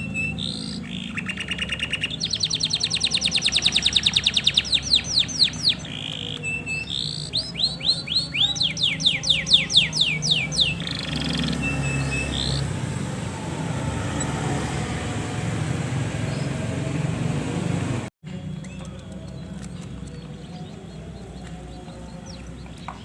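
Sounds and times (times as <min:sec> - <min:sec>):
canary singing: 0:00.0 - 0:23.0.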